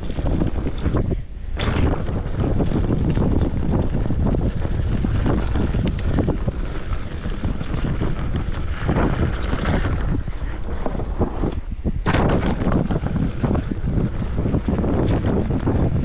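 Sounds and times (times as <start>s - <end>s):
mountain bike rattling on trail: 0.0s - 16.0s
wind buffeting microphone: 0.0s - 16.0s
bike knocking over bumps: 1.6s - 16.0s.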